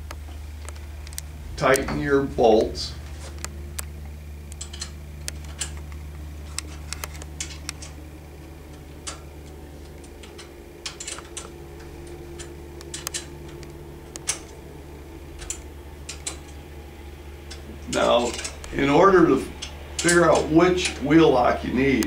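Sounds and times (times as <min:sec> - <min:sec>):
wrench metallic clicks: 0:00.0 - 0:21.3
low hum: 0:00.0 - 0:22.0.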